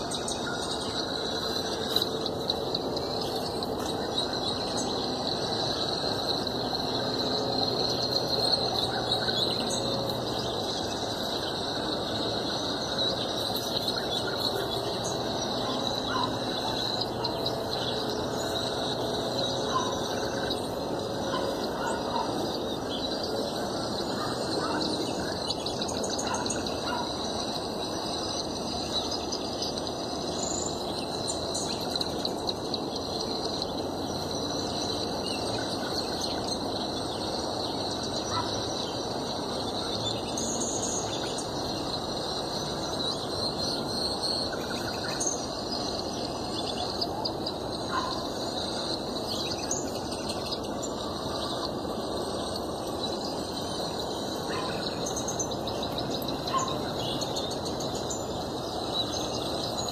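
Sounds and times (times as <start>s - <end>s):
songbirds chirping and singing: 0.0s - 59.9s
steady background hiss: 0.0s - 59.9s.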